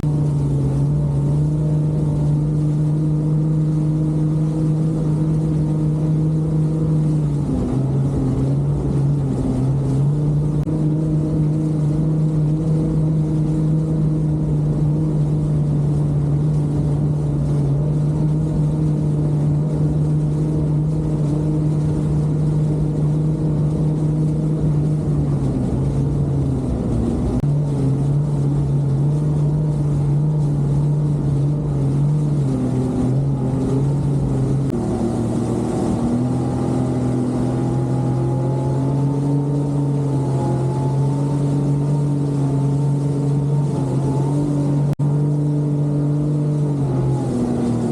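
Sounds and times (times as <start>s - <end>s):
jet ski engine running: 0.0s - 47.9s.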